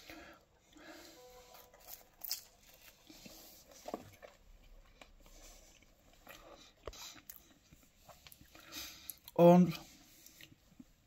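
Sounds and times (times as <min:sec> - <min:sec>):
person chewing food: 0:01.4 - 0:11.0.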